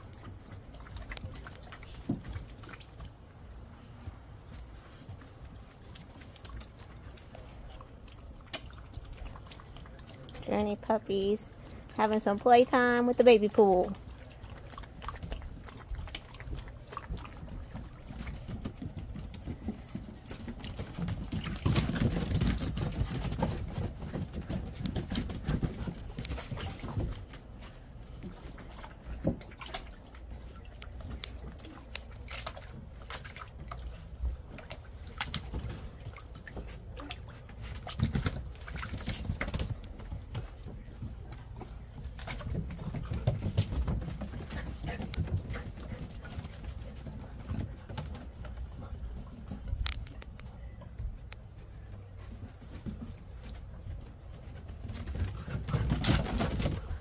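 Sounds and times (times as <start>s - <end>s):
paws clicking on wooden decking: 0.0s - 57.0s
water splashing in a plastic pool: 0.0s - 57.0s.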